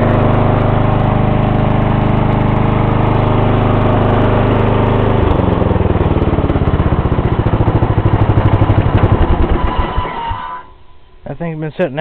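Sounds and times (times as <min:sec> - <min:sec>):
lawn mower engine running: 0:00.0 - 0:10.9.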